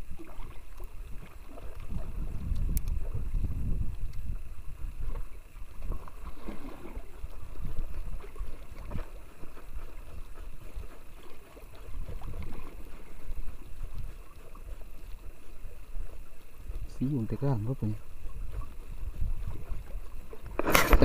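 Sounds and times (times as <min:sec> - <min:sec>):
waves lapping against boat hull: 0:00.0 - 0:21.0
wind on microphone: 0:00.0 - 0:21.0.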